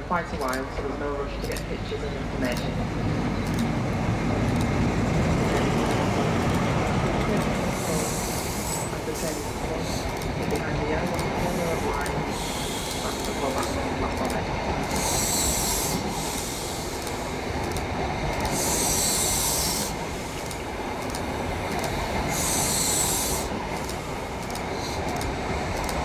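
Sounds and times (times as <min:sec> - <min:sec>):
train wheels rumbling on rails: 0:00.0 - 0:26.0
train hiss: 0:03.4 - 0:26.0.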